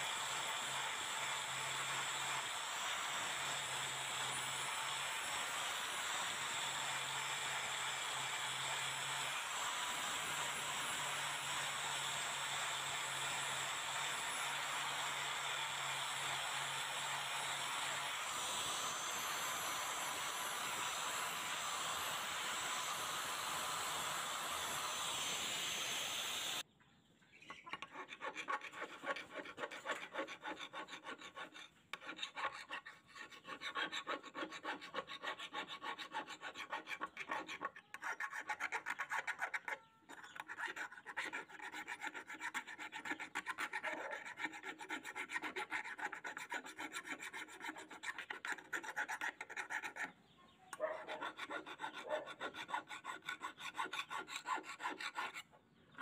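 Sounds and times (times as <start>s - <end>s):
angle grinder on steel blade: 0.0s - 26.6s, 27.7s - 50.2s, 51.1s - 55.5s
file rasping on blade: 0.0s - 26.6s, 27.6s - 56.0s.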